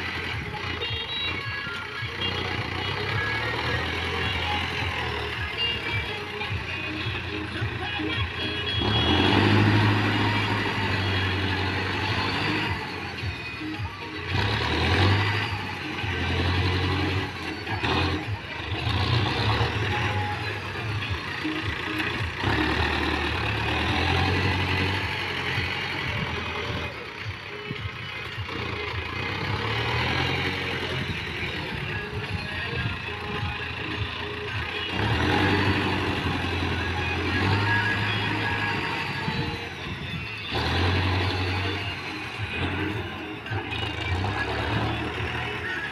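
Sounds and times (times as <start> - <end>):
tractor diesel engine revving: 0.0 - 45.9.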